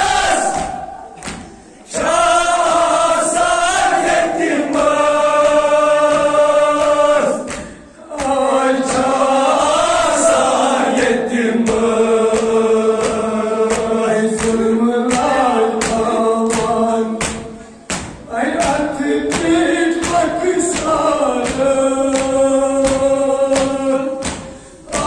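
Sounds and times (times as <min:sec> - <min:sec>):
group of voices chanting: 0:00.0 - 0:25.0.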